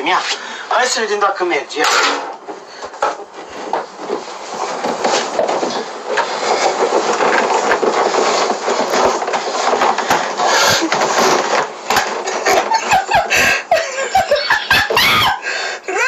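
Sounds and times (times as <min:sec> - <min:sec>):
clothes rustling: 0:00.0 - 0:15.3.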